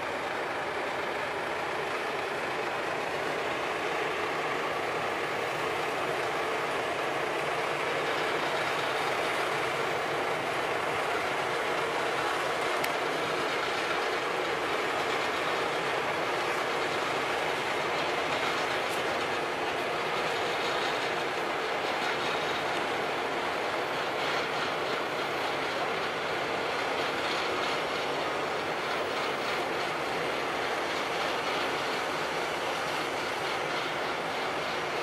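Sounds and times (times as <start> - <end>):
road roller diesel engine running: 0.0 - 35.0.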